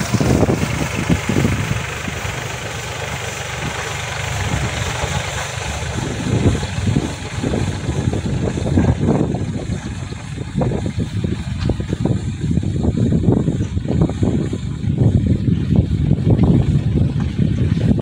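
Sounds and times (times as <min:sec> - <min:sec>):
blower rushing: 0:00.0 - 0:18.0
tractor diesel engine running: 0:00.0 - 0:18.0.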